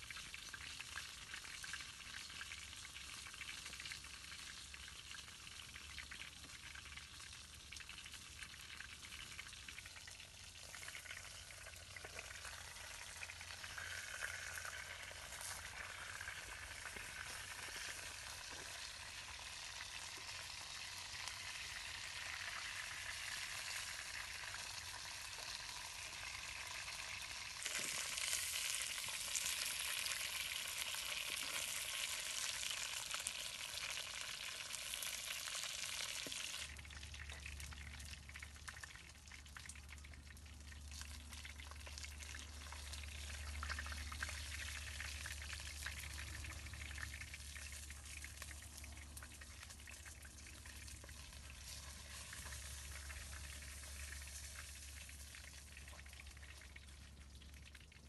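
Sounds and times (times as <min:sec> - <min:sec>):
fish sizzling in hot oil: 0:00.0 - 0:57.9.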